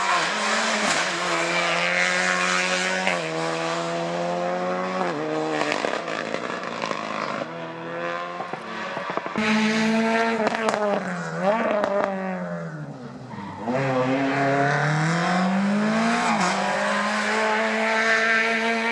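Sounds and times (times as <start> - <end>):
rally car engine revving: 0.0 - 18.9.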